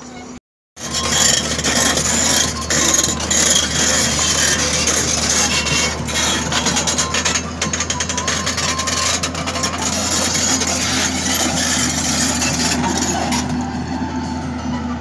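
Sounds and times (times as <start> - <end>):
excavator engine hum: 0.0 - 15.0
tracks clattering: 0.8 - 15.0.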